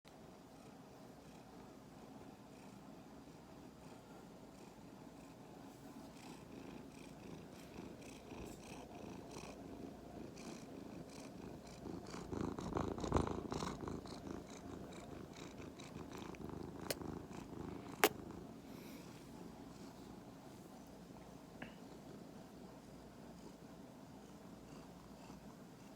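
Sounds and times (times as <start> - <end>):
cat purring: 0.3 - 25.9.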